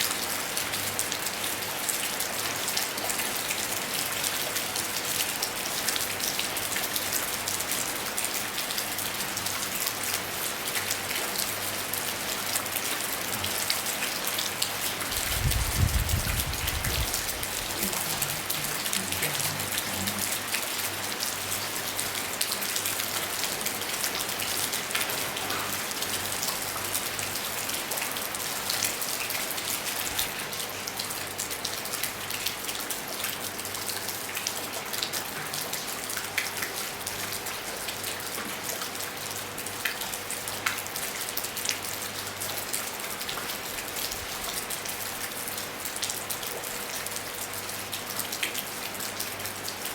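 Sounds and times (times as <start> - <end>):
rain falling on a roof: 0.0 - 49.9.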